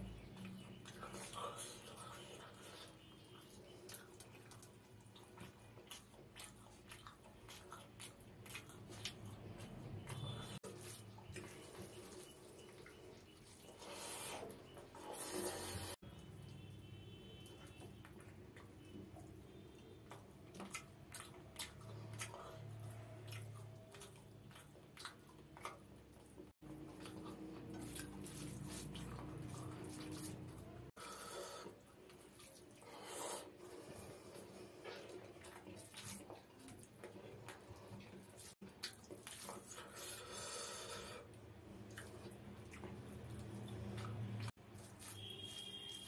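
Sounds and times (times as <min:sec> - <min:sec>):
chewing with wet mouth smacks: 0:00.0 - 0:15.5, 0:17.4 - 0:31.0, 0:31.6 - 0:40.4, 0:41.0 - 0:46.0.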